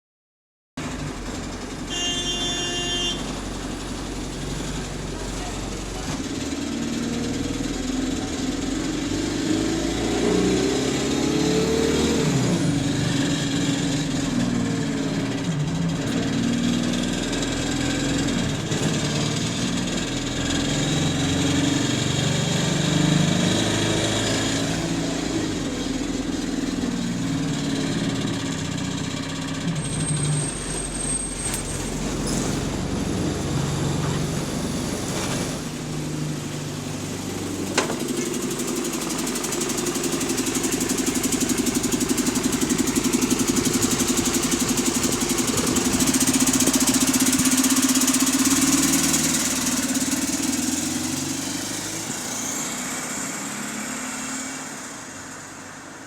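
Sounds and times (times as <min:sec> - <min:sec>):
engine ticking: 0:00.8 - 0:53.1
bus engine running: 0:00.8 - 0:56.0.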